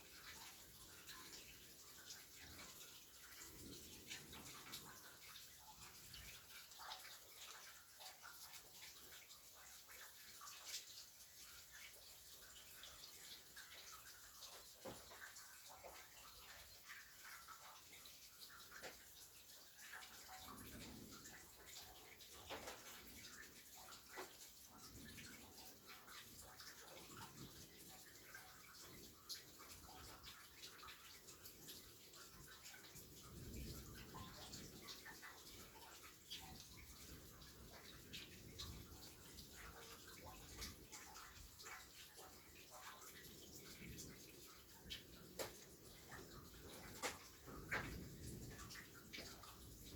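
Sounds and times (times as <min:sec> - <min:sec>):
rain pattering: 0:00.0 - 0:49.9.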